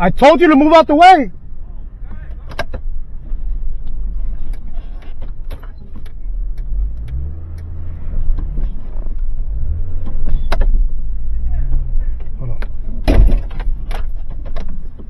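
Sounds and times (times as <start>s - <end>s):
vehicle engine revving: 2.8s - 15.0s.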